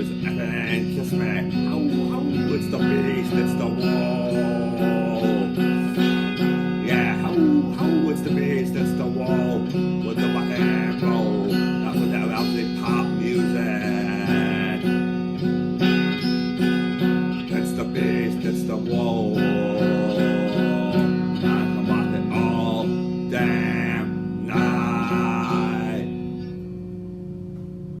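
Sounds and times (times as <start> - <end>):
strummed guitar chords: 0.0 - 28.0.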